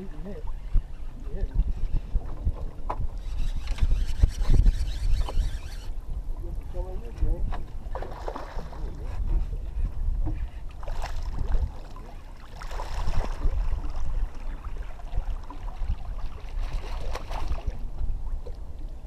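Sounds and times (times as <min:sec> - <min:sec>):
water lapping at boat: 0:00.0 - 0:19.0
wind rumbling on microphone: 0:00.0 - 0:19.0.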